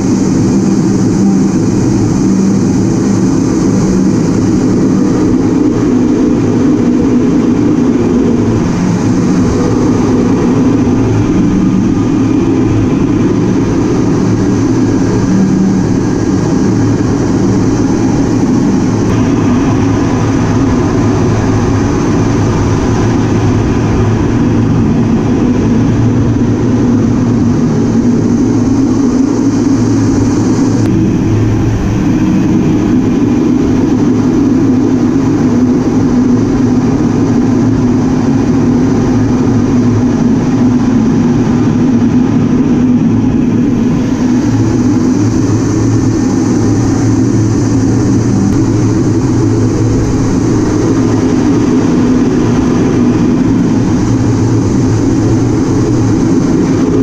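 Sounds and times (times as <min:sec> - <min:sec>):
jet cockpit engine drone: 0:00.0 - 0:57.0.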